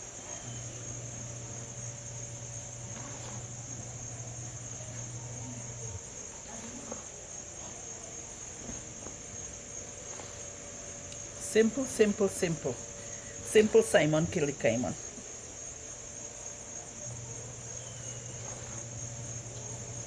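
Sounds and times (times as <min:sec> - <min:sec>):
crickets chirring: 0:00.0 - 0:20.0
low steady hum: 0:00.0 - 0:20.0.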